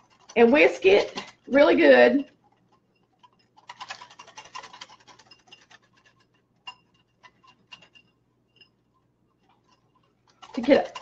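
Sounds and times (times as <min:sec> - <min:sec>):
whisk clicking against glass bowl: 0:00.0 - 0:11.0.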